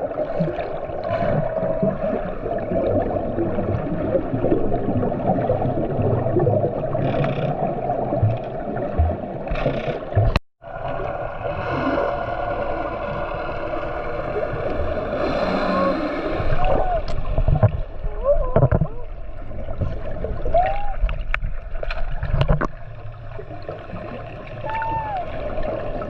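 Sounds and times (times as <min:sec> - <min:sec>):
underwater rushing gurgling water: 0:00.0 - 0:26.0.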